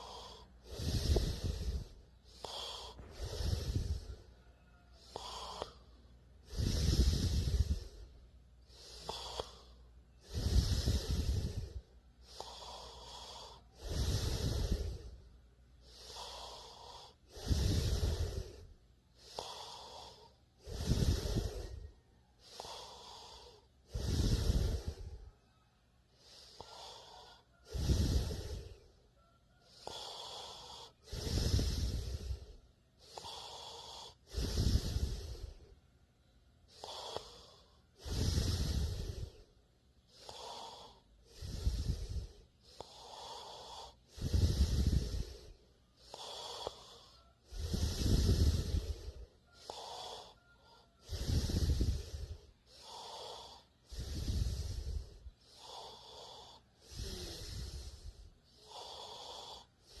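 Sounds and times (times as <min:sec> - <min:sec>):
person snoring: 0:00.0 - 0:29.0, 0:29.6 - 0:35.8, 0:36.7 - 1:00.0
soft airy breath: 0:00.0 - 1:00.0.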